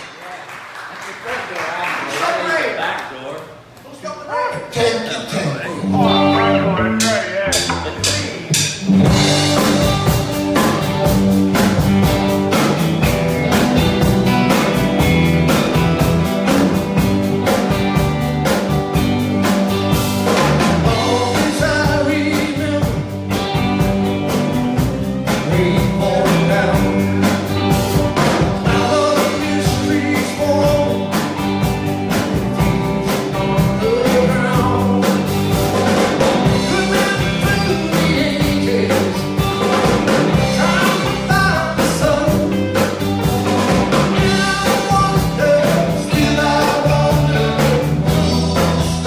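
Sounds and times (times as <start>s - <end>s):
bass guitar: 5.6s - 49.0s
electric guitar: 5.8s - 49.0s
drum kit steady beat: 6.0s - 49.0s.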